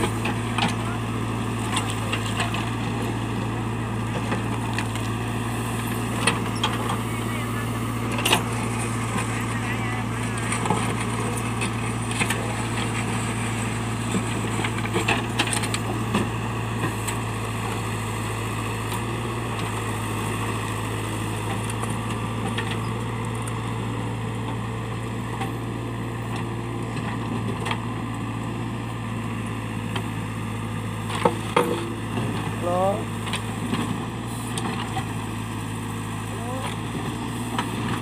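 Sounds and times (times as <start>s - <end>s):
backhoe diesel engine running: 0.0s - 38.0s.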